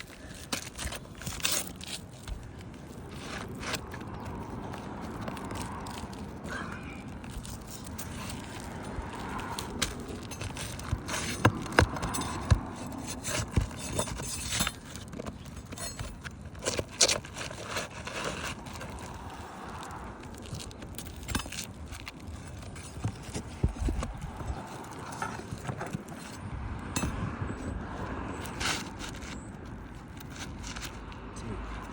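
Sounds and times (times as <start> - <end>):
shingles scraping: 0.0 - 31.9.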